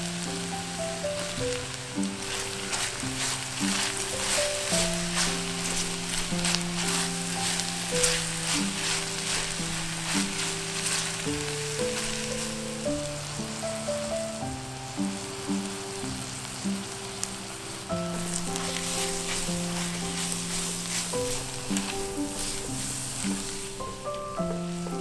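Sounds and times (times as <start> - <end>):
background music melody: 0.0 - 25.0
food sizzling in frying pan: 0.0 - 25.0.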